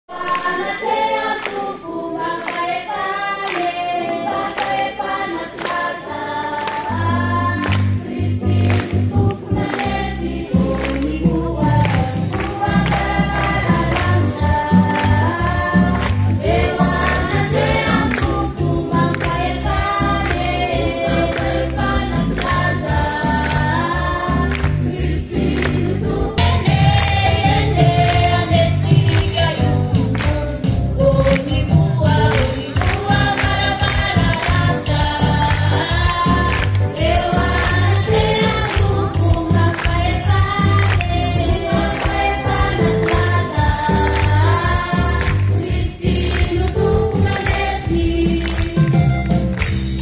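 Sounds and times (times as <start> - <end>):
church choir singing a hymn: 0.1 - 31.4, 32.0 - 48.8
rhythmic beat: 6.7 - 50.0.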